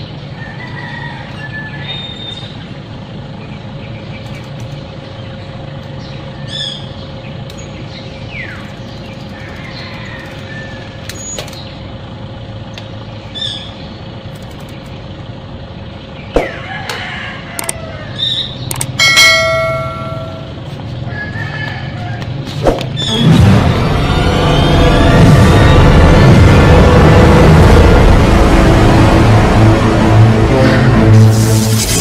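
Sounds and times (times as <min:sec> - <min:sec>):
traffic hum: 0:00.0 - 0:32.0.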